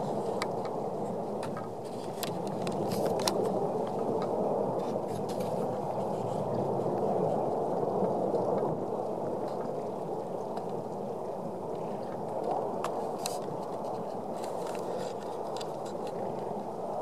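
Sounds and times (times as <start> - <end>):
faint crackles and clicks: 0.0 - 17.0.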